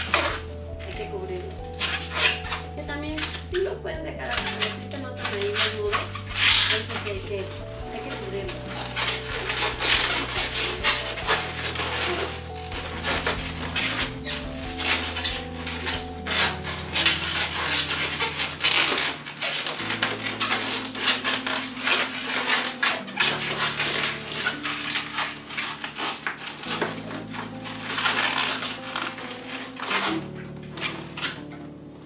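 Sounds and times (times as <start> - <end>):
balloons rubbing and squeaking: 0.0 - 32.0.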